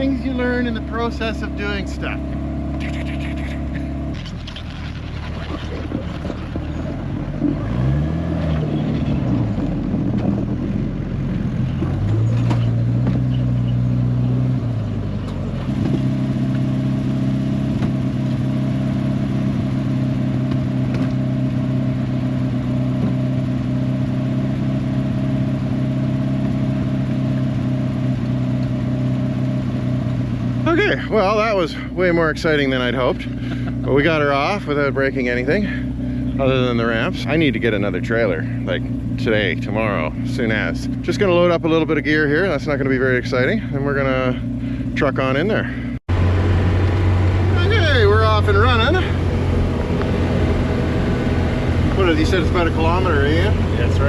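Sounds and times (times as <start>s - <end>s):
snowcat engine revving: 0.0s - 54.0s.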